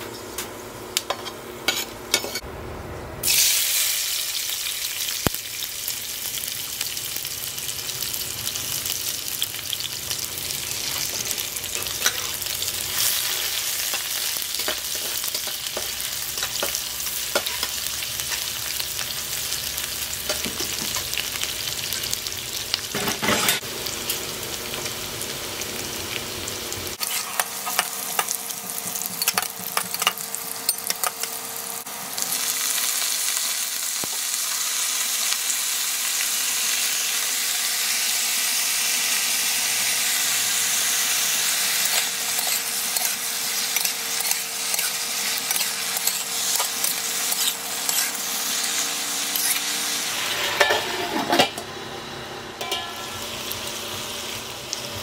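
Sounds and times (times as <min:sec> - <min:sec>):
vegetables sizzling in oil: 0:03.2 - 0:55.0.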